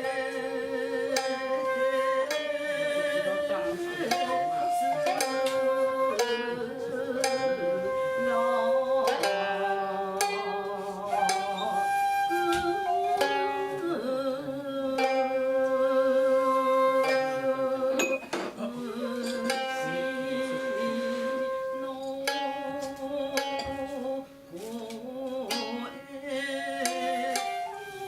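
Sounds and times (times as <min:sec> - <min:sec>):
bamboo flute long tones: 0:00.0 - 0:28.0
plucked strings: 0:00.0 - 0:28.0.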